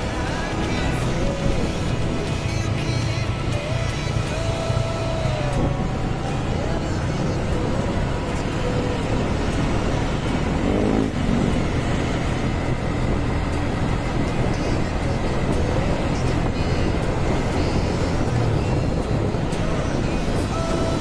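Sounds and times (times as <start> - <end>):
vehicle driving in traffic: 0.0 - 21.0.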